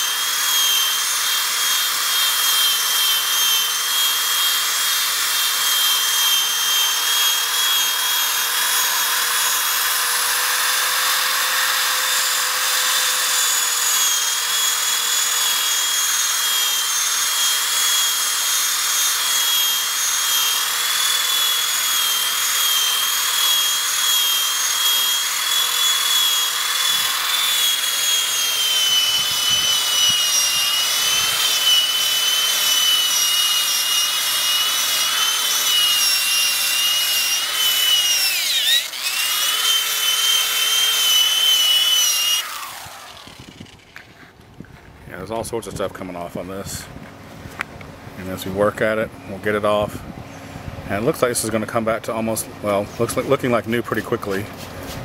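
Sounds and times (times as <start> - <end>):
buffing pad motor whine: 0.0 - 44.6.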